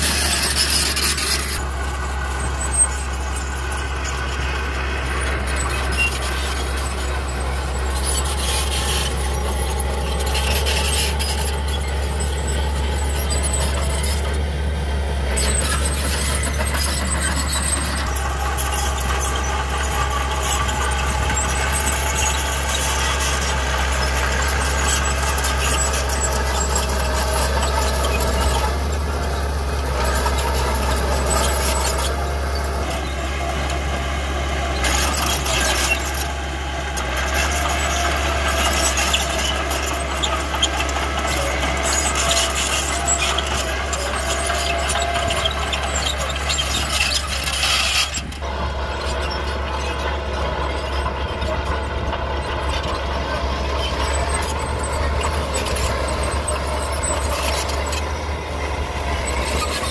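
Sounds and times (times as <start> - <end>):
bulldozer engine running: 0.0 - 59.9
crawler tracks squealing: 0.0 - 59.9.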